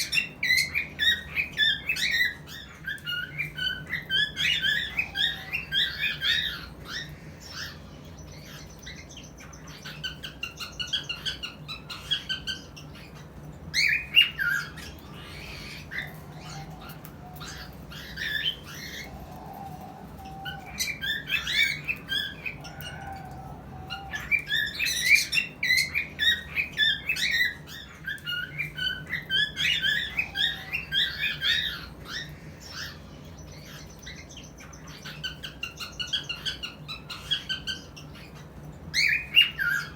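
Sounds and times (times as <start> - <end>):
cockatiels chirping and squawking: 0.0 - 39.9
steady low hum: 0.0 - 39.9.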